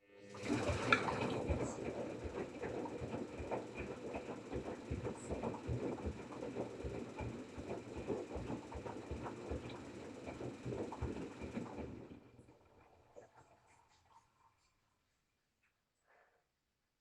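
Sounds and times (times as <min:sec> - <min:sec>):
washing machine running: 0:00.0 - 0:13.8.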